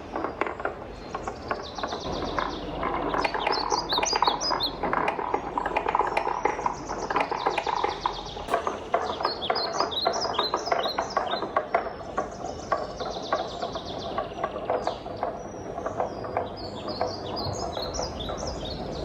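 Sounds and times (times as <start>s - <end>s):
wooden balls clacking: 0.0s - 19.0s
wooden balls rolling on a track: 0.0s - 19.0s.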